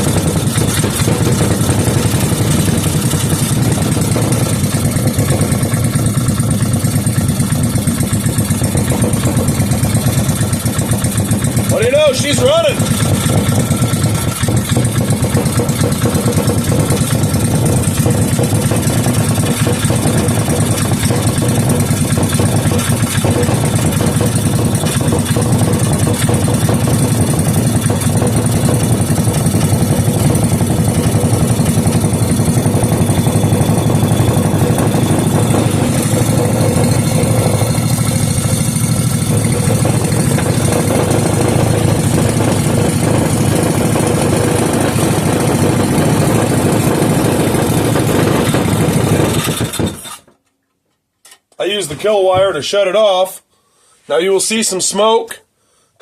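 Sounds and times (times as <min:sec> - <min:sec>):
single-cylinder engine running: 0:00.0 - 0:50.3.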